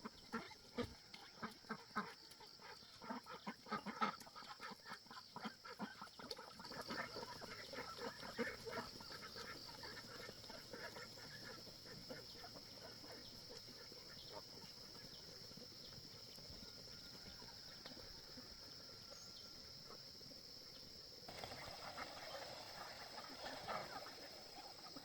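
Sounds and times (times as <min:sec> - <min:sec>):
poultry calling and scuffling: 0:00.0 - 0:25.0.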